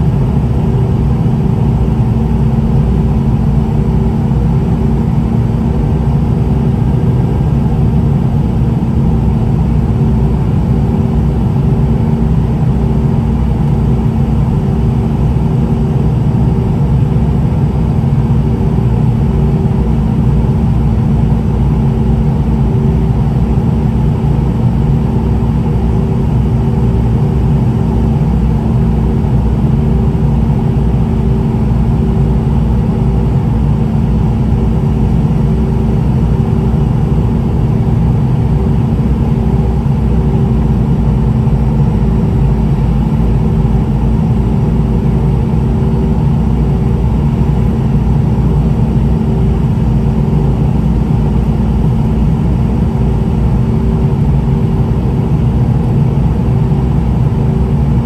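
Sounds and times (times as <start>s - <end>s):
airliner cabin rumble: 0.0s - 58.0s
steady low hum: 0.0s - 58.0s.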